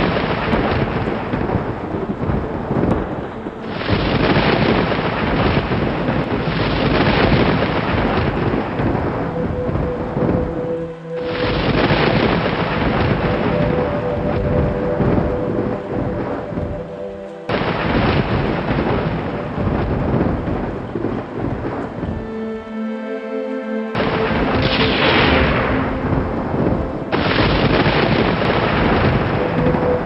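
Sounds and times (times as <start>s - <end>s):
rolling thunder: 0.0s - 22.5s, 24.0s - 30.0s
rain: 0.0s - 30.0s
soft relaxing music: 0.0s - 30.0s.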